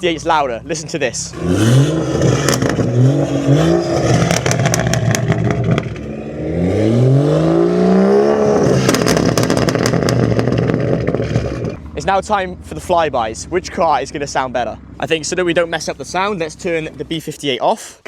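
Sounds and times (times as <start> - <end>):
exhaust crackles and pops: 0.0 - 7.0, 7.8 - 17.6
car engine revving: 0.0 - 17.3.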